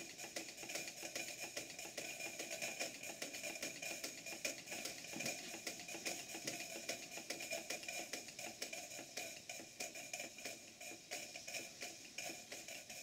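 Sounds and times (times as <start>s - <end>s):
model steam engine clattering: 0.0s - 13.0s
steam hiss: 0.0s - 13.0s.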